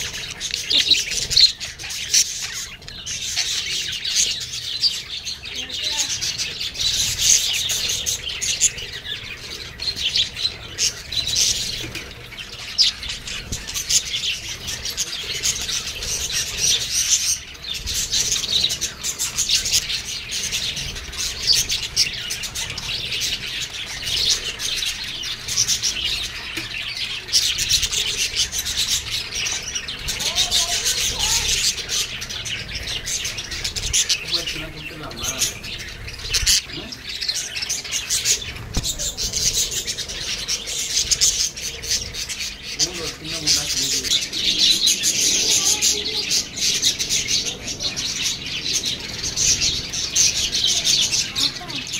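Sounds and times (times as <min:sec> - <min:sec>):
budgerigars chattering: 0:00.0 - 0:51.9
wings fluttering: 0:00.0 - 0:51.9.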